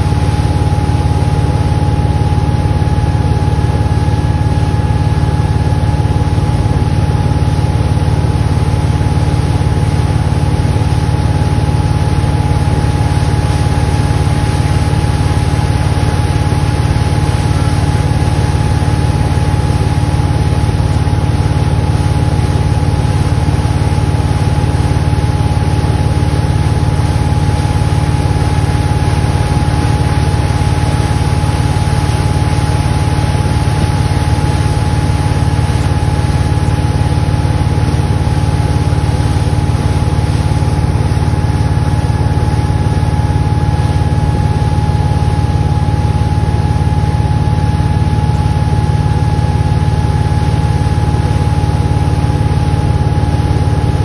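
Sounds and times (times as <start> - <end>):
boat engine running: 0.0 - 54.0
water rushing past hull: 0.0 - 54.0.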